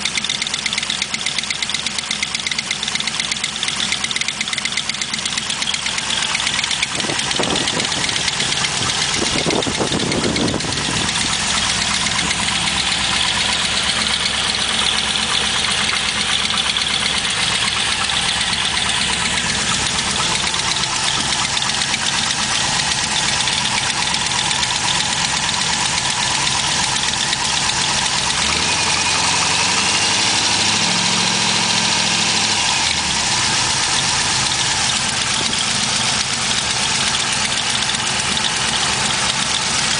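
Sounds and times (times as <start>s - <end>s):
car engine idling with a tick: 0.0s - 39.9s
engine revving: 0.0s - 39.9s.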